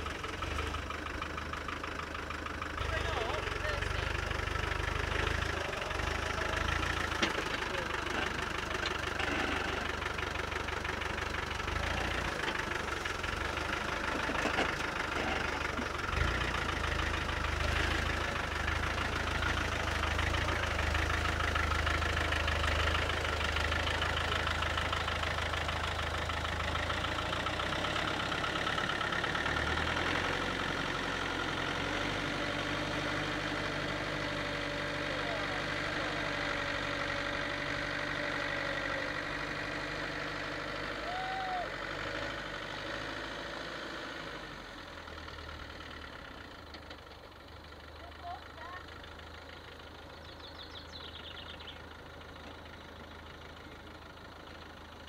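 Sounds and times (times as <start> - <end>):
car engine at low speed: 0.0 - 55.0.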